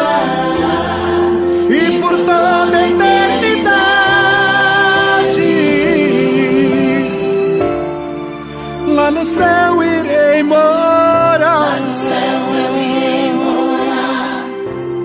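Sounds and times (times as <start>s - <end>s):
person singing gospel: 0.0s - 7.6s, 8.8s - 14.6s
instrumental backing: 0.0s - 15.0s.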